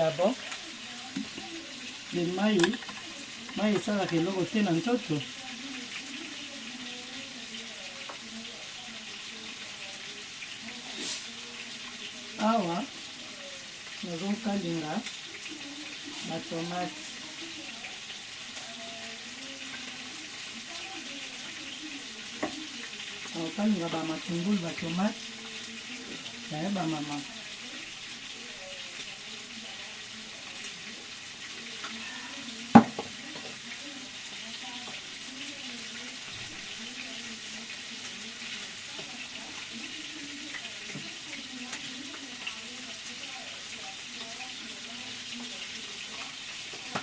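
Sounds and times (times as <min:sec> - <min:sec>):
onions frying in hot oil: 0:00.0 - 0:47.0.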